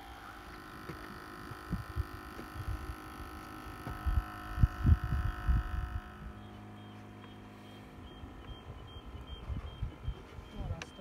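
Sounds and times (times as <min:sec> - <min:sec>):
faint steady hum: 0:00.0 - 0:11.0
wind buffeting microphone: 0:00.6 - 0:06.8, 0:08.0 - 0:11.0.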